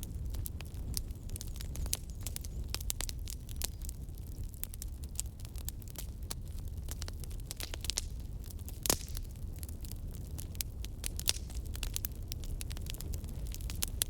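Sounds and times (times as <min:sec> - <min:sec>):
burning logs crackling and popping: 0:00.0 - 0:14.0
fire flames rumbling: 0:00.0 - 0:14.0.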